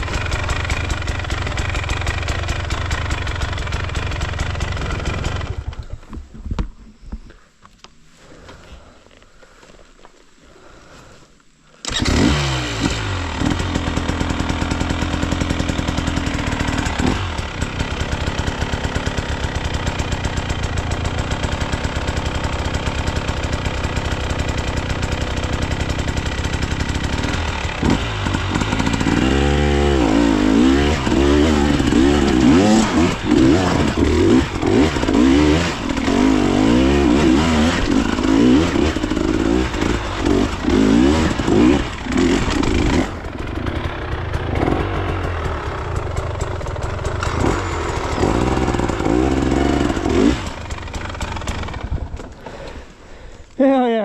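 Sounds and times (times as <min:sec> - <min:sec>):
dirt bike engine revving: 0:00.0 - 0:05.7, 0:11.8 - 0:52.9.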